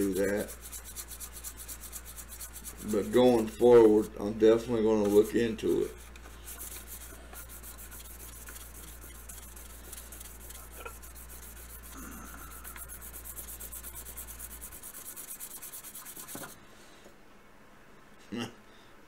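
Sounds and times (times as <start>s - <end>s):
sandpaper rubbing on metal: 0.0s - 4.2s, 5.1s - 16.6s.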